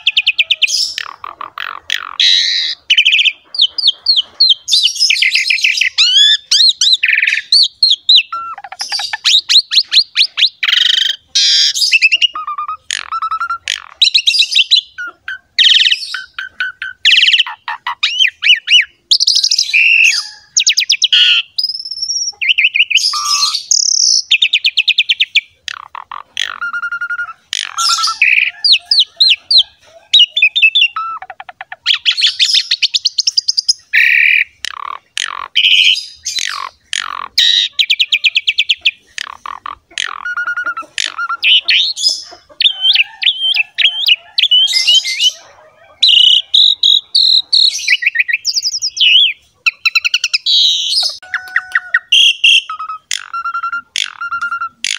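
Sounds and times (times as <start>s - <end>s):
starling singing: 0.0s - 54.9s.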